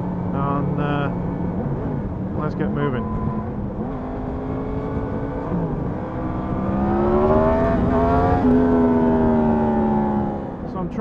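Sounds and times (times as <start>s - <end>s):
motorcycle engine accelerating: 0.0s - 10.8s.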